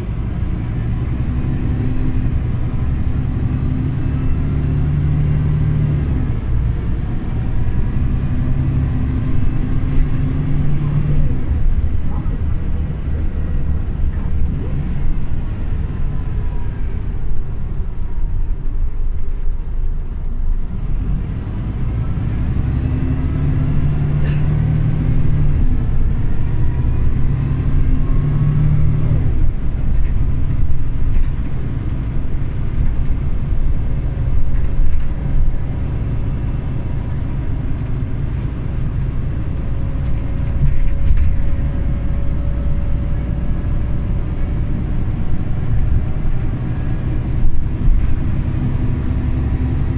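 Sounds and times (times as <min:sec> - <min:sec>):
bus engine running: 0:00.0 - 0:49.9.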